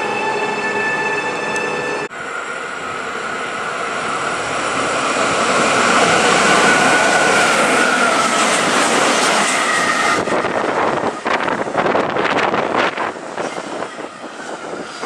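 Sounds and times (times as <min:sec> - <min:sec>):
electric train rushing past: 0:00.0 - 0:15.0
locomotive high whine: 0:00.0 - 0:15.0.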